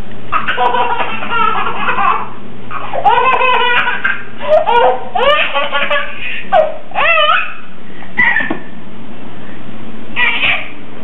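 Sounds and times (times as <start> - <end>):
baby giggling: 0.3 - 8.7, 10.2 - 10.8.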